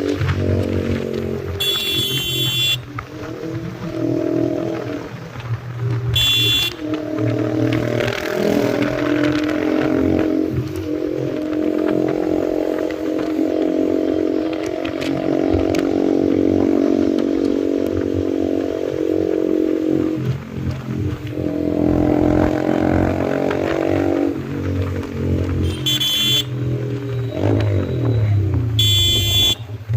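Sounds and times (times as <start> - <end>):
motorcycle engine with loud exhaust: 0.0 - 29.9.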